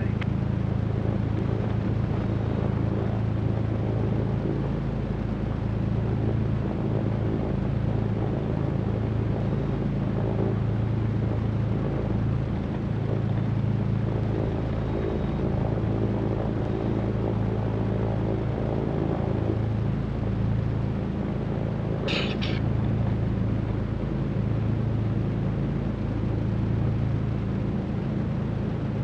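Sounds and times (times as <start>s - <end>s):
twin piston aircraft engines droning: 0.0s - 29.0s.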